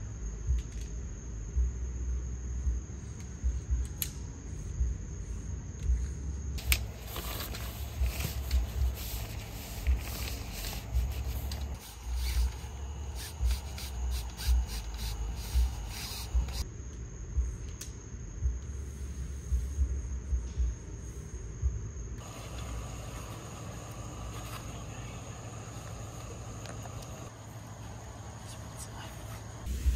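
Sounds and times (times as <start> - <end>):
insect trill: 0.0 - 29.9.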